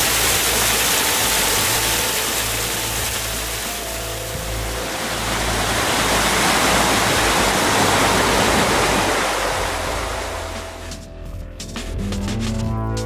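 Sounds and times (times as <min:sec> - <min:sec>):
small waterfall splashing: 0:00.0 - 0:10.8.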